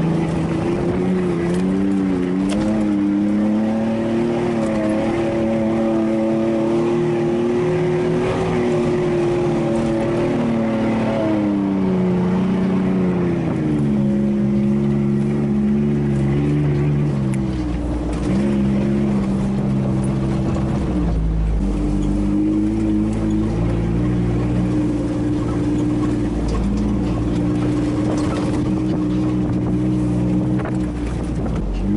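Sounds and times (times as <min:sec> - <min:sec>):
pickup engine from inside cab: 0:00.0 - 0:31.9.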